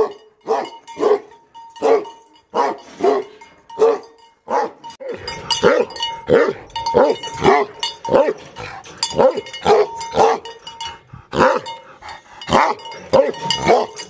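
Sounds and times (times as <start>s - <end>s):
dog barking aggressively: 0.0s - 10.6s, 11.3s - 11.8s, 12.5s - 14.0s.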